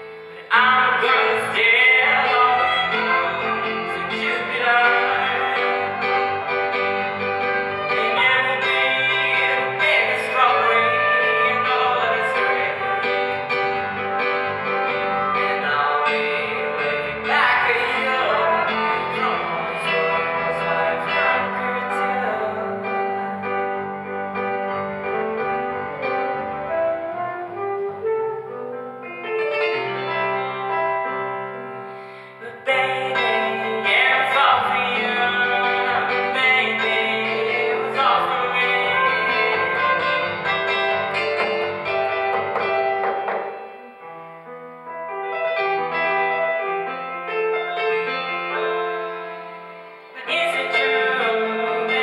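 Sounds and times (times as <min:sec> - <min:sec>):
trumpet: 0:00.0 - 0:31.9, 0:32.6 - 0:44.0, 0:44.7 - 0:52.0
saxophone: 0:00.0 - 0:44.0, 0:44.8 - 0:52.0
keyboard: 0:00.0 - 0:52.0
double bass: 0:00.6 - 0:31.8, 0:32.6 - 0:43.3.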